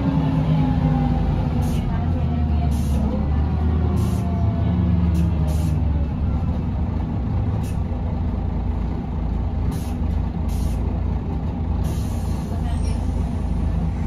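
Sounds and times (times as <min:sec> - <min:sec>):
bus engine running: 0:00.0 - 0:14.0.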